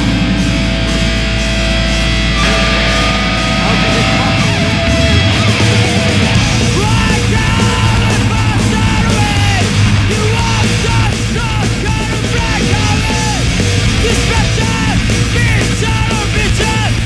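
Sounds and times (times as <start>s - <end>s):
distorted guitars: 0.0s - 17.0s
punk rock music: 0.0s - 17.0s
yelled vocals: 2.2s - 17.0s.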